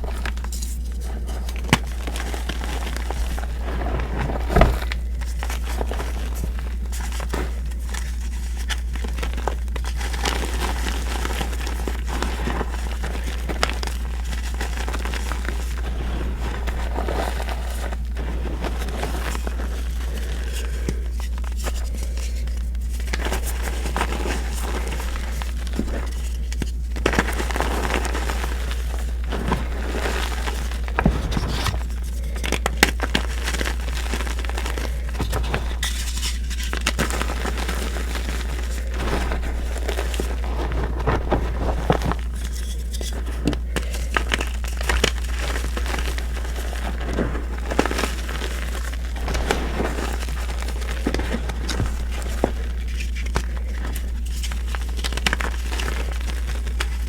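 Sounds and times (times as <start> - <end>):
chalk crunching and crackling: 0.0 - 57.0.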